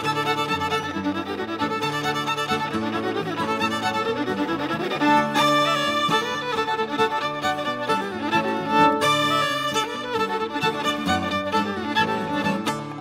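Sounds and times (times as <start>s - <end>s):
fiddle-led instrumental music: 0.0s - 13.0s.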